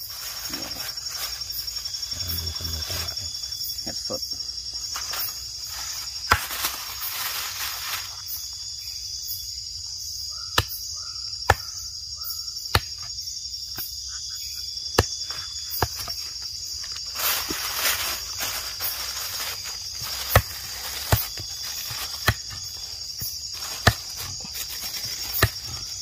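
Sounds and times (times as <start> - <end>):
night insects chorus: 0.0 - 26.0.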